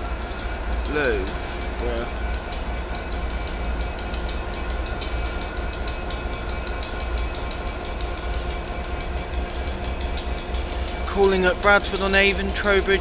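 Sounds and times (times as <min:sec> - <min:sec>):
diesel train engine rumble: 0:00.0 - 0:13.0.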